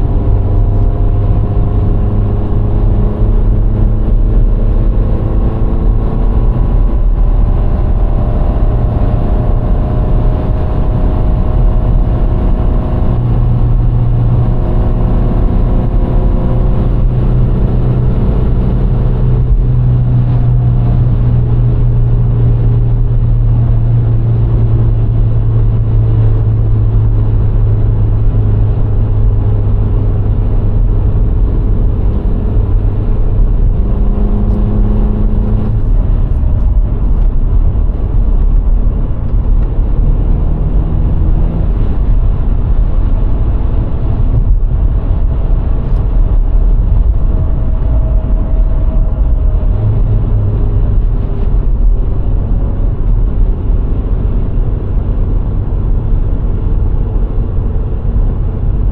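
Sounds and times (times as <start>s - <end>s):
car engine running: 0.0s - 58.9s
tyre and road noise: 0.0s - 58.9s.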